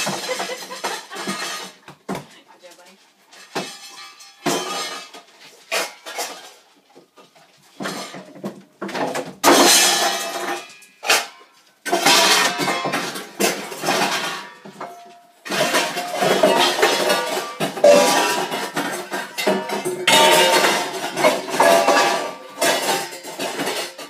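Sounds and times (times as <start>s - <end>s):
dishes clattering in a sink: 0.0s - 2.3s, 3.4s - 24.0s.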